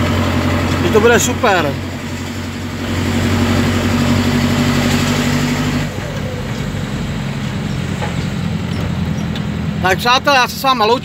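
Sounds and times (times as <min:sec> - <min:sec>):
truck diesel engine with cracked exhaust: 0:00.0 - 0:11.0.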